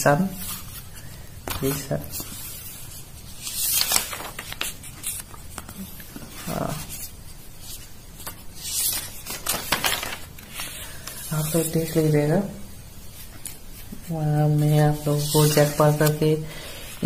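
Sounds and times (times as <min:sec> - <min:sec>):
paper pages turning: 0:00.4 - 0:12.1, 0:13.1 - 0:17.0.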